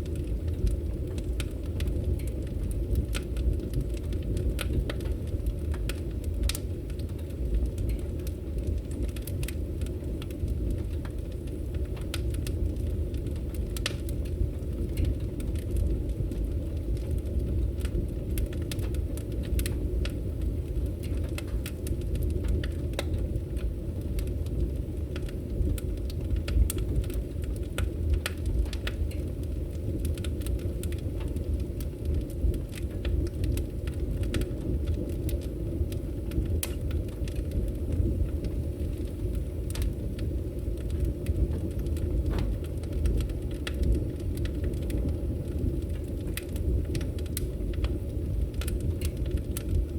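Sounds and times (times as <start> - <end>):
burning wood crackling and popping: 0.0 - 49.9
fire roaring: 0.0 - 49.9.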